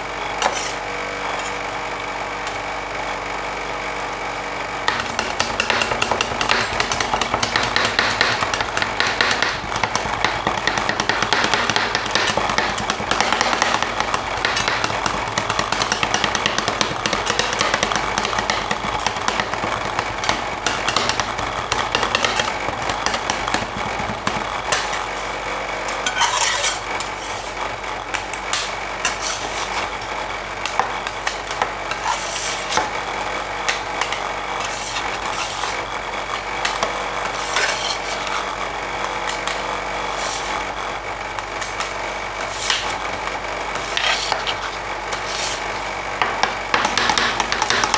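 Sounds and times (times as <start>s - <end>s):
machine hum: 0.0s - 47.9s
metal spatulas chopping and scraping: 0.4s - 0.8s, 1.4s - 1.6s, 4.9s - 33.0s, 33.6s - 40.6s, 41.4s - 43.0s, 43.7s - 47.9s.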